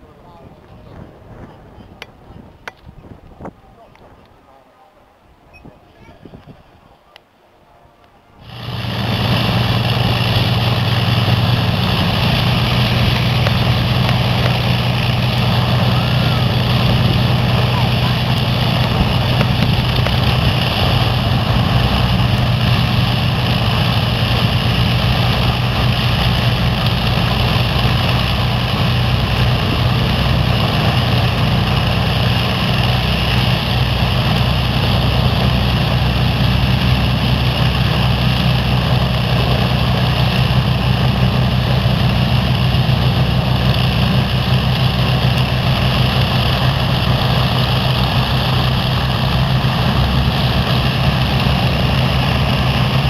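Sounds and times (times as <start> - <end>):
aircraft engines droning: 8.3 - 53.0.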